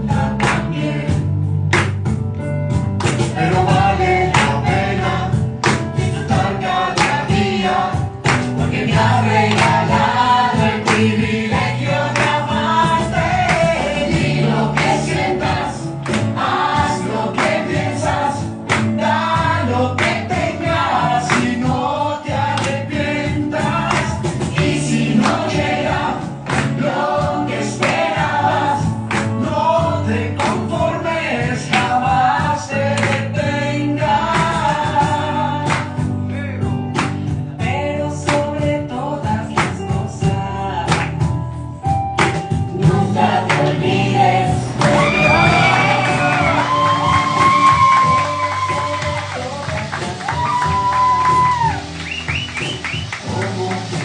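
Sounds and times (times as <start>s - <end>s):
voices singing together: 0.0s - 1.4s, 3.2s - 36.5s, 42.6s - 54.0s
backing track with bass and beat: 0.0s - 54.0s.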